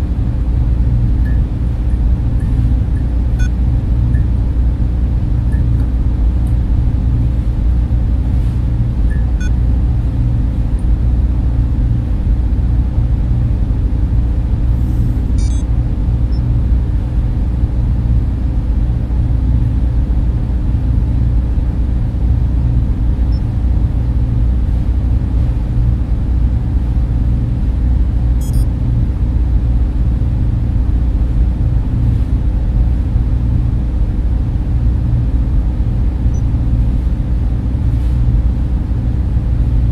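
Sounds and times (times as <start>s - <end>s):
server fans humming: 0.0s - 39.9s.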